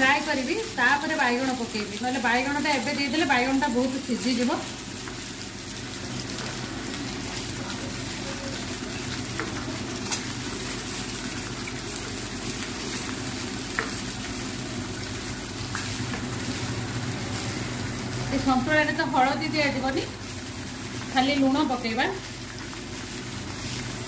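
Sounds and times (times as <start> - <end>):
vegetables frying in oil: 0.0 - 24.0.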